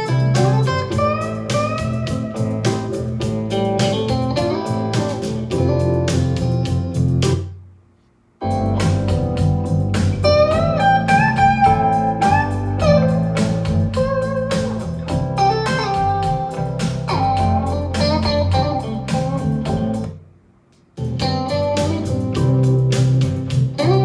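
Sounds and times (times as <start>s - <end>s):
guitar music with strong bass: 0.0s - 7.6s, 8.4s - 20.2s, 21.0s - 24.0s.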